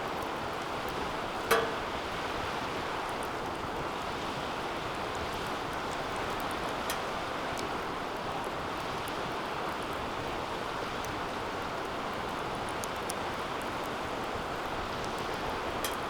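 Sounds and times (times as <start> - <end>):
fire crackles and pops: 0.0 - 16.0.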